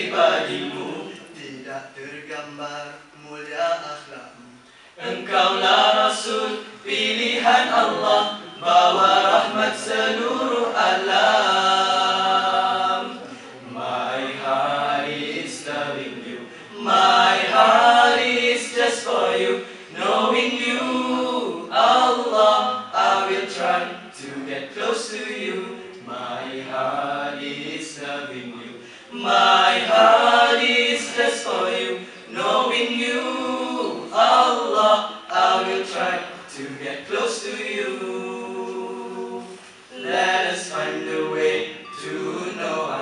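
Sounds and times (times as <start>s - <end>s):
men singing a cappella: 0.0s - 43.0s.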